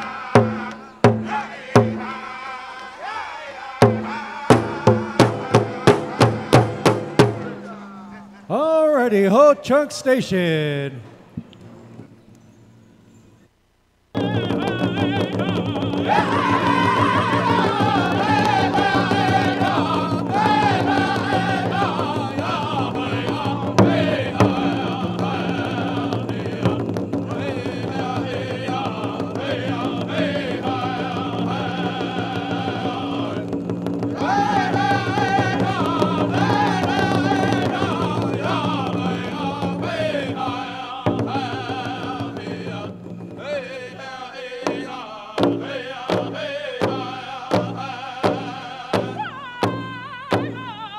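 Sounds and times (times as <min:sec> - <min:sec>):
big drum beating: 0:00.0 - 0:02.2, 0:03.8 - 0:09.5, 0:14.2 - 0:44.0, 0:44.6 - 0:50.9
men singing high wavering voices: 0:00.0 - 0:11.0, 0:14.2 - 0:50.9.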